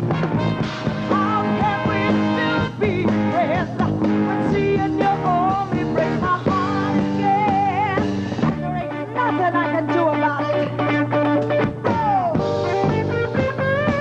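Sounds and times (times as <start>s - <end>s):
live rock band playing: 0.0s - 14.0s
person singing with vibrato: 1.0s - 14.0s.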